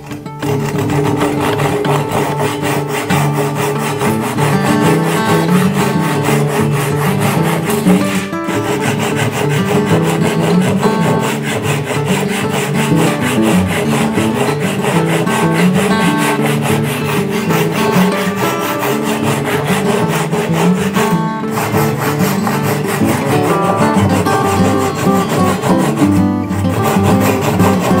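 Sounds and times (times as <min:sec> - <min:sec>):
acoustic guitar music: 0:00.0 - 0:28.0
hand saw rasping through wood: 0:00.0 - 0:28.0.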